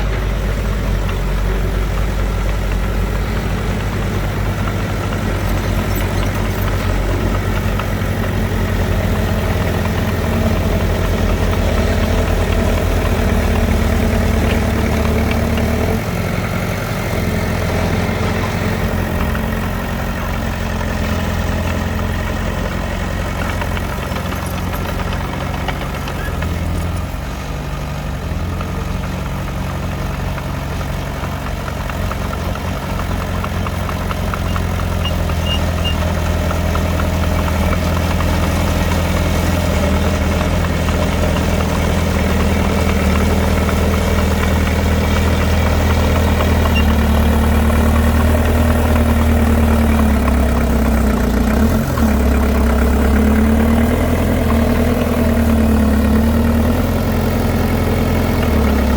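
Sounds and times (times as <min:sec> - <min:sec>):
heavy machinery diesel engine running: 0:00.0 - 0:58.9.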